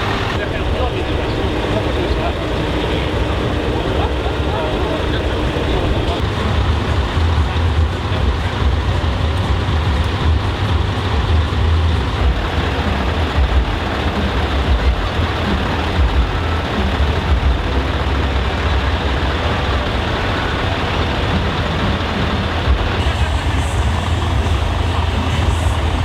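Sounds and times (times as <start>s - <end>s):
truck engines rumbling: 0.0s - 26.0s.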